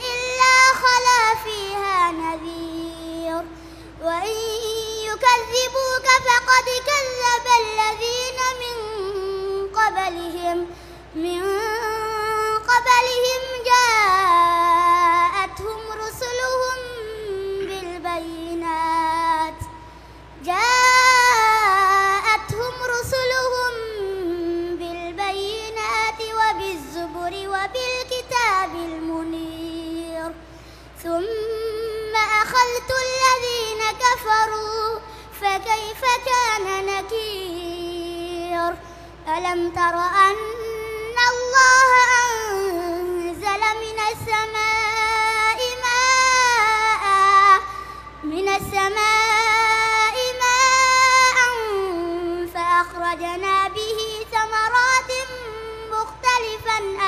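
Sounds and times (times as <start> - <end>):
boy reciting melodically: 0.0 - 57.0.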